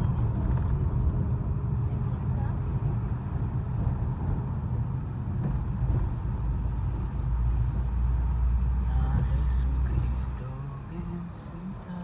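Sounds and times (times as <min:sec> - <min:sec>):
car cabin engine and road rumble: 0:00.0 - 0:12.0.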